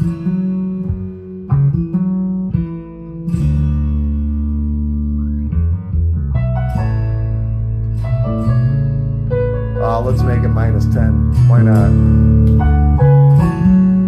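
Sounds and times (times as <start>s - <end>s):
guitar-led song over speakers: 0.0s - 14.0s.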